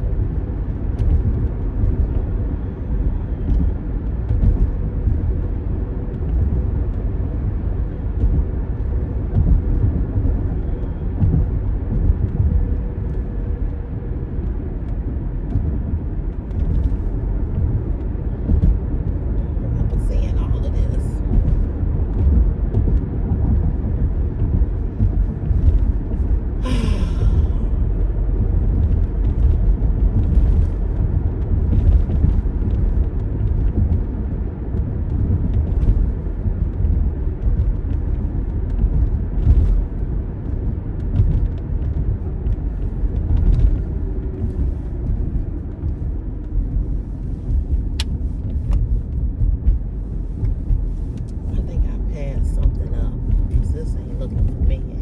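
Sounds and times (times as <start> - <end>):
car engine rumble and road noise: 0.0 - 55.0.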